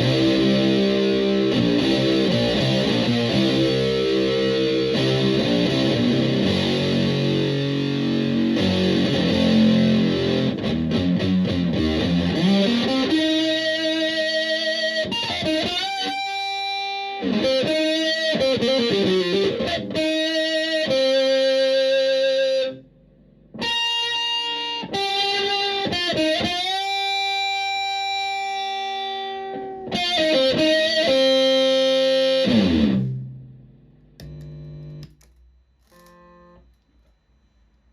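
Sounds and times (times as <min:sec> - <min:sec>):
distorted electric guitar: 0:00.0 - 0:36.7.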